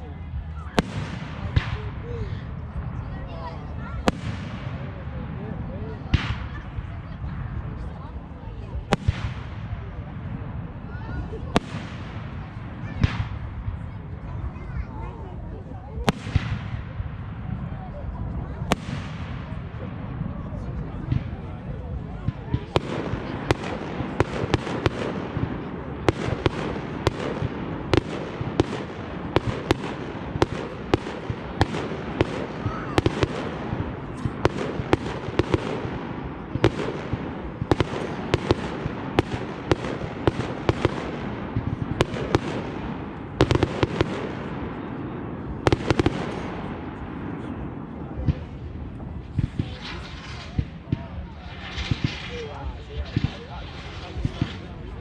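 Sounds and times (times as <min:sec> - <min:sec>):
fireworks crackle and rumble: 0:00.0 - 0:55.0
fireworks bangs: 0:00.4 - 0:55.0.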